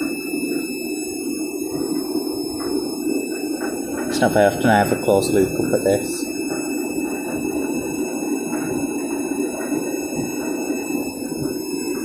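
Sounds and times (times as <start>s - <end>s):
washing machine drum turning: 0.0s - 12.0s.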